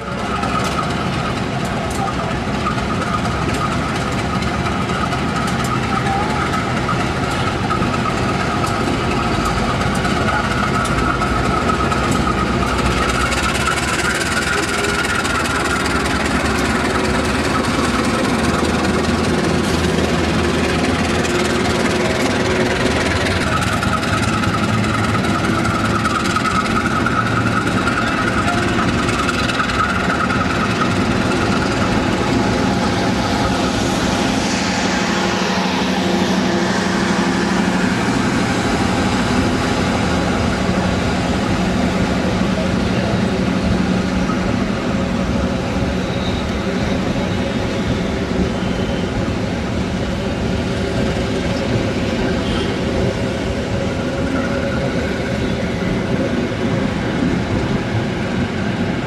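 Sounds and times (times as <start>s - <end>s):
diesel locomotive engine running hard: 0.0s - 59.0s
train coaches rolling past: 0.0s - 59.0s.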